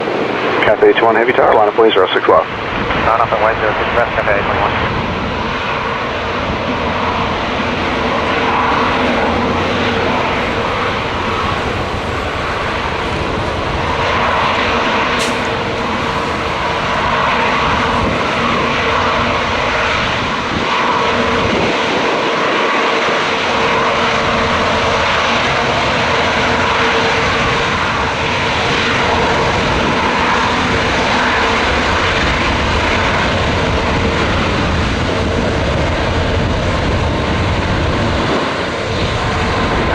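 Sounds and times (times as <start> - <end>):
jet engines running: 0.0 - 39.9
wind rumbling on microphone: 2.5 - 39.9.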